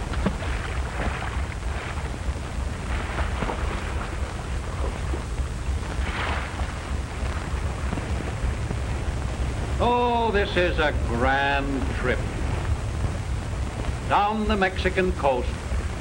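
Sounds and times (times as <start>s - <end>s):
deep rumble: 0.0s - 16.0s
noisy film soundtrack: 0.0s - 16.0s
rushing sea water: 0.0s - 16.0s.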